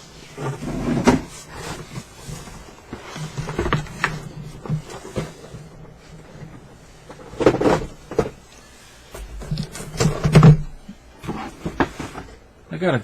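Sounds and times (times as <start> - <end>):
cardboard boxes rustling and knocking: 0.3 - 12.5.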